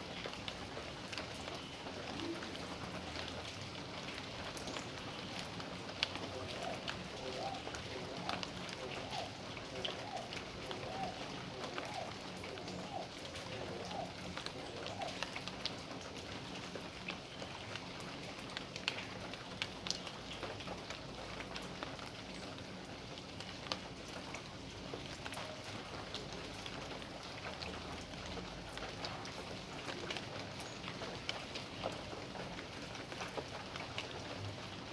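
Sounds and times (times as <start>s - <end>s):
raindrops ticking on surfaces: 0.0s - 34.9s
steady rain hiss: 0.0s - 34.9s.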